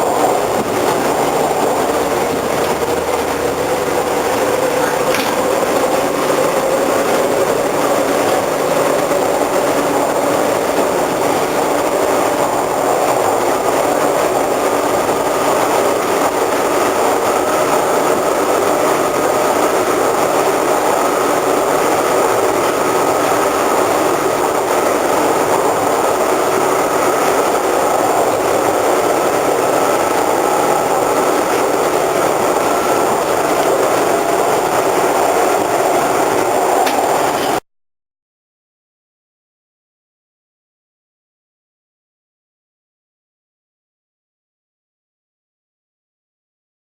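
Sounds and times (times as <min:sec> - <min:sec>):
subway car running noise: 0:00.0 - 0:37.6
thin whine: 0:00.0 - 0:37.6
ventilation fan grinding: 0:00.0 - 0:37.6.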